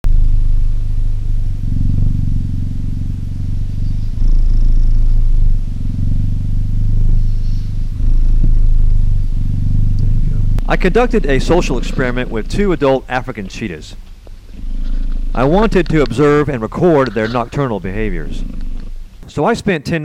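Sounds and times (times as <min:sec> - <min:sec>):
cheetah purring: 0:00.0 - 0:19.2.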